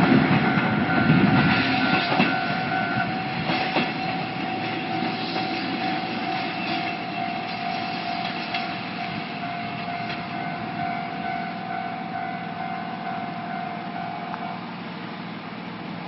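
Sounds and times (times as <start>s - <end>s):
level crossing alarm ringing: 0.0s - 14.8s
electric train running: 0.0s - 16.0s.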